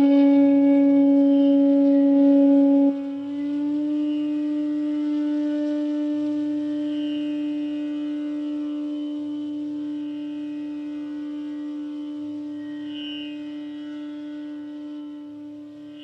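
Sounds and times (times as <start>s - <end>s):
bamboo flute long low note: 0.0s - 16.0s.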